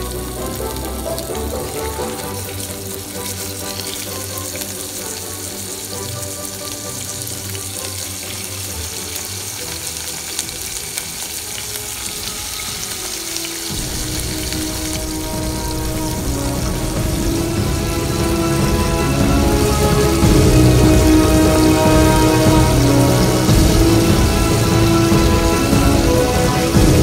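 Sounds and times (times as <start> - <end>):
background music: 0.0 - 27.0
scallops sizzling in oil: 0.0 - 27.0.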